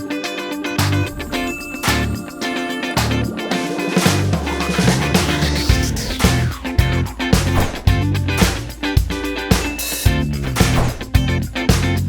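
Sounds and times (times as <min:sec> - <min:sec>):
plucked guitar: 0:00.0 - 0:12.0
bass: 0:00.8 - 0:02.3, 0:03.0 - 0:03.4, 0:04.1 - 0:12.0
strong beats: 0:00.8 - 0:12.0.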